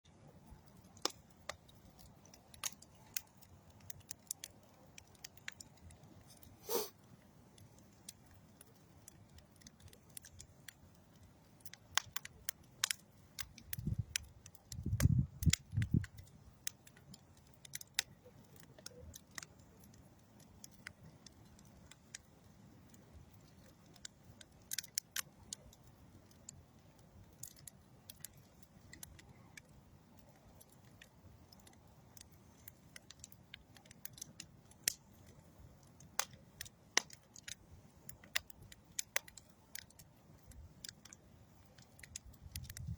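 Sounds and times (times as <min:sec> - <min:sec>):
wood fire crackling: 0:00.1 - 0:42.9.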